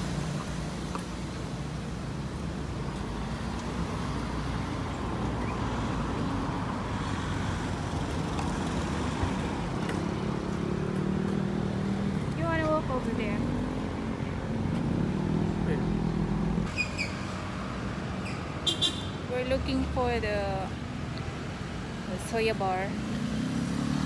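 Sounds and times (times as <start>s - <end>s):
road traffic: 0.0s - 24.0s
vehicle engine hum: 0.0s - 24.0s.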